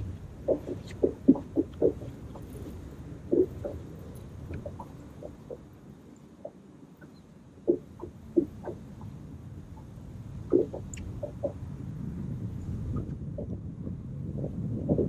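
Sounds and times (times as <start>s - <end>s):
low rumble: 0.0s - 15.0s
small waves slapping boat hull: 0.0s - 15.0s.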